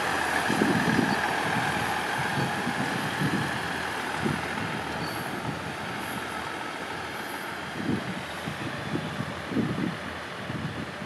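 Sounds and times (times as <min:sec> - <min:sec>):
diesel railcar engine pulling away: 0:00.0 - 0:11.0.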